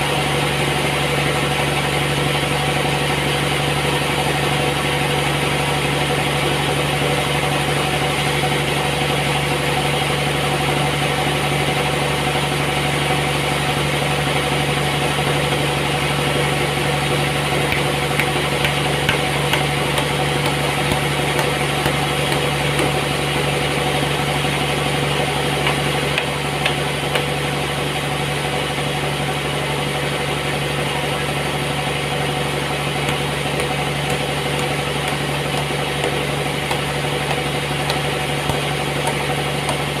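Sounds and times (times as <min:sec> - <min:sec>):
sawmill machinery humming: 0:00.0 - 0:40.0.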